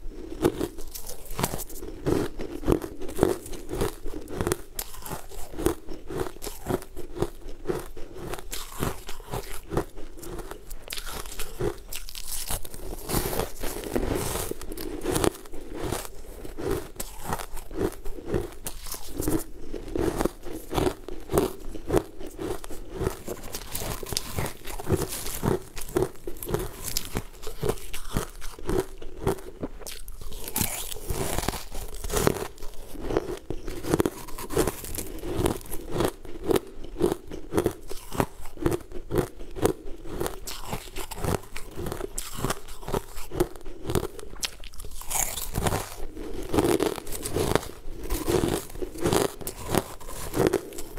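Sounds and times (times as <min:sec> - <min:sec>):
person chewing crunchy food: 0:00.0 - 0:50.9.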